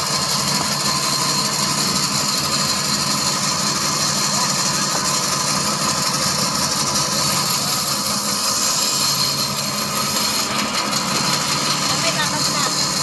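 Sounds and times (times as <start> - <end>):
band saw cutting wood: 0.0 - 13.0.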